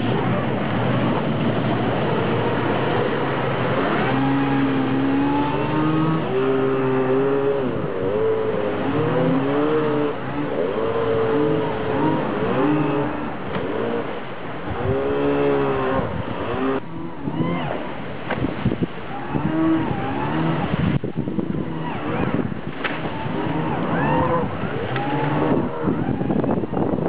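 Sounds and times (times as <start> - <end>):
hydrofoil engine revving: 0.0 - 27.0
water rushing: 0.0 - 27.0.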